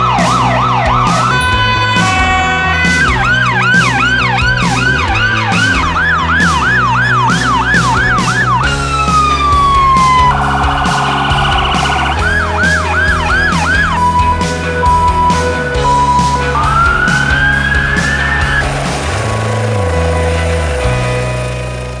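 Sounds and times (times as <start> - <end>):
background music with beat: 0.0 - 21.5
emergency vehicle sirens: 0.0 - 21.5.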